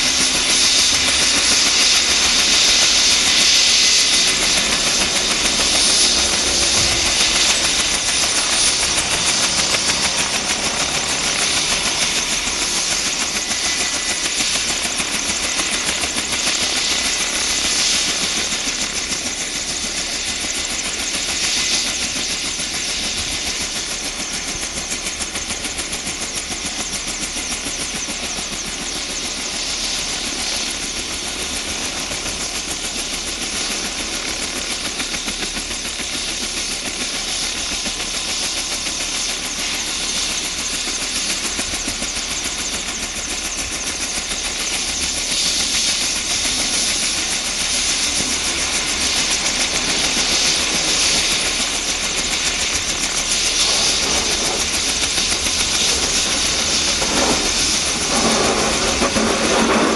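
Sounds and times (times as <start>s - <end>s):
helicopter engine whine: 0.0s - 59.9s
rotor blades beating: 0.0s - 59.9s.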